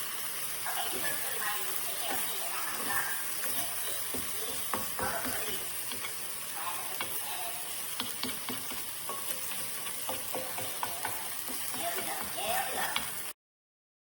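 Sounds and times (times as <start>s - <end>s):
food sizzling in frying pan: 0.0s - 13.4s
utensil tapping pan: 0.8s - 13.3s.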